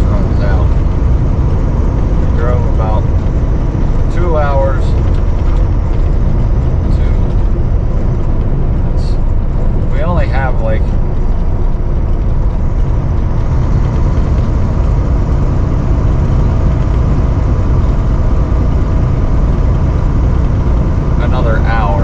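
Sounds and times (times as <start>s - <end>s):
diesel engine drone: 0.0s - 22.0s
faint steady whine: 0.0s - 22.0s
road noise: 0.0s - 22.0s.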